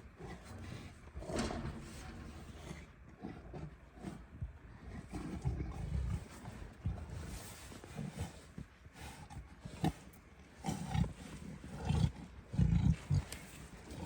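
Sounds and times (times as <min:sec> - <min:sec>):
tigers growling: 0:00.0 - 0:14.0.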